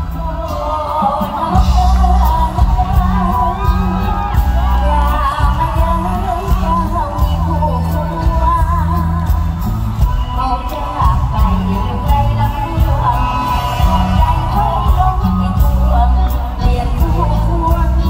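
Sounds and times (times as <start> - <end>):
amplified band with heavy bass: 0.0 - 18.0
woman singing into microphone: 0.0 - 18.0.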